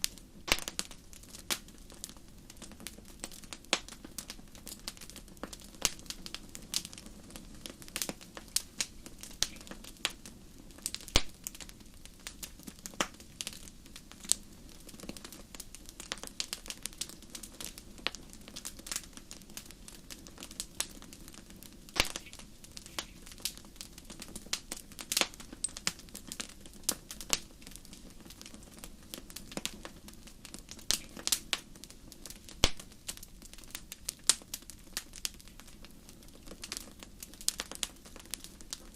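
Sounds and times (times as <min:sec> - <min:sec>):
firewood popping and snapping: 0:00.0 - 0:38.9
low rustle of flames: 0:00.0 - 0:38.9.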